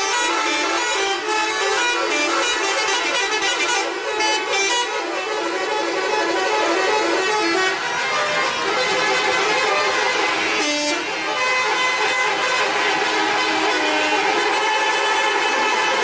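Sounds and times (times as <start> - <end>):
multi-tone musical bus horn: 0.0 - 16.0.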